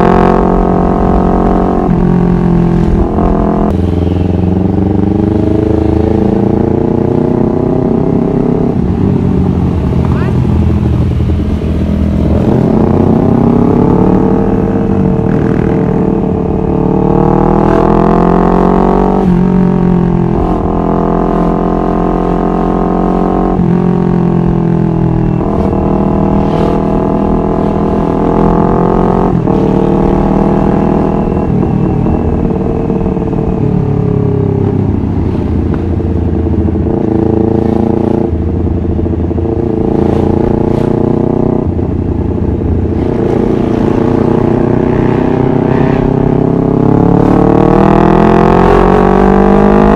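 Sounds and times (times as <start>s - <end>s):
motorcycle engine shifting gears: 0.0s - 49.9s.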